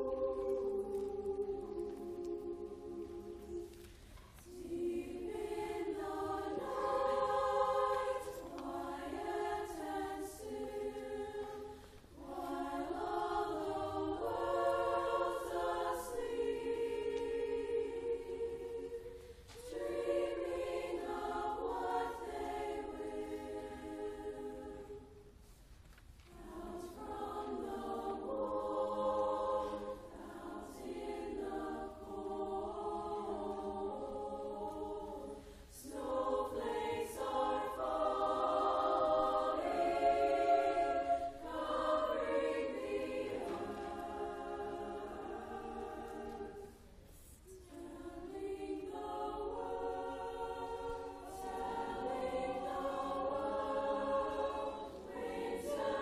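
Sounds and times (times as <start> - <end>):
women's choir singing: 0.0 - 25.4, 26.2 - 56.0.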